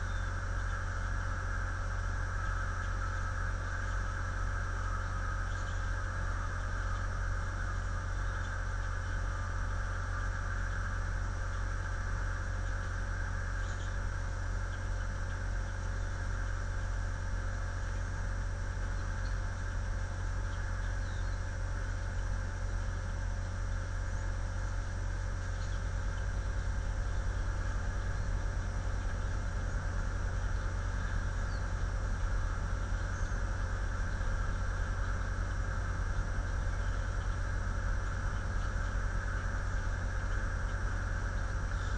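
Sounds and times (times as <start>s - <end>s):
microphone hum and hiss: 0.0s - 41.9s
small birds chirping: 0.0s - 41.9s.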